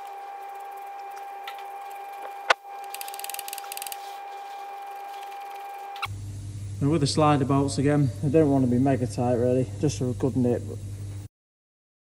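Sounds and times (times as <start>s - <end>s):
steady high hum: 0.0s - 11.3s.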